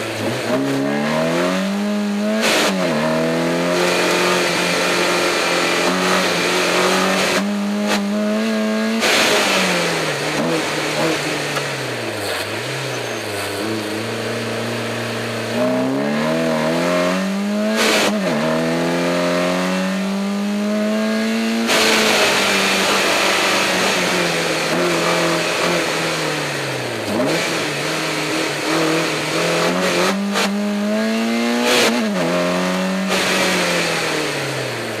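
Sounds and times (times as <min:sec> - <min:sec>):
car engine revving hard: 0:00.0 - 0:35.0.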